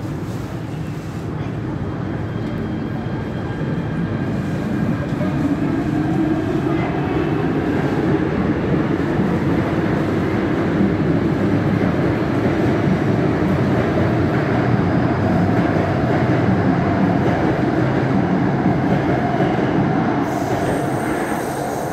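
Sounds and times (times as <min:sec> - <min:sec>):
train wheels on rail: 0:00.0 - 0:21.9.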